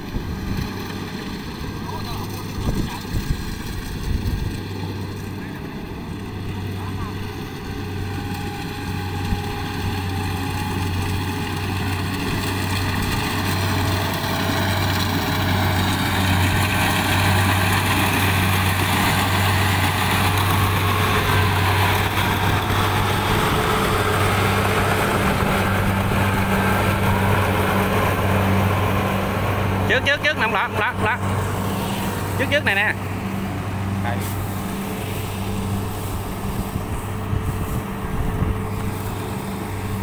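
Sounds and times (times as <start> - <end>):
combine harvester engine hum: 0.0 - 40.0.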